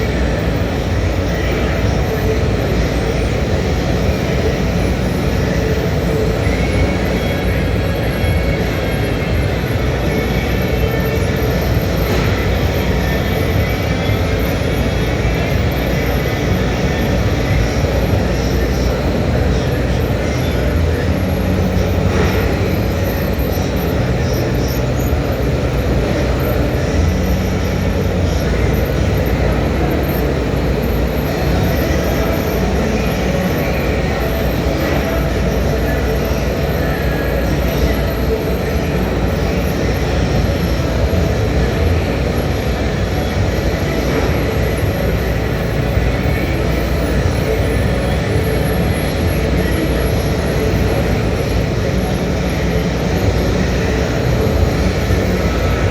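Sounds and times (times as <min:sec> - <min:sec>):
furnace mechanical roar: 0:00.0 - 0:55.9.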